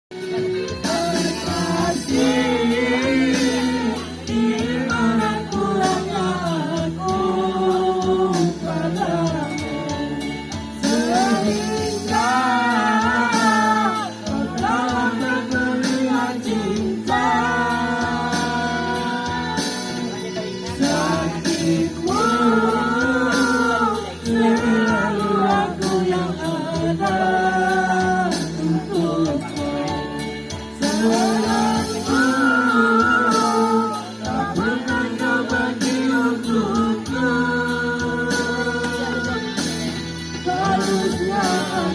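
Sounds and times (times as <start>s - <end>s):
instrumental accompaniment with bass: 0.1s - 41.9s
person singing: 0.1s - 41.9s.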